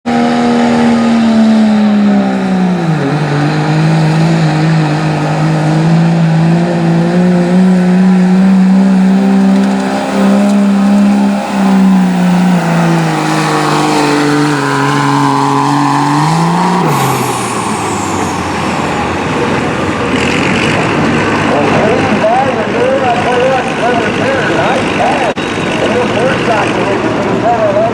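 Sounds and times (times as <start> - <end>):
diesel truck engine under load: 0.0 - 27.9
rough rushing noise: 0.1 - 27.8.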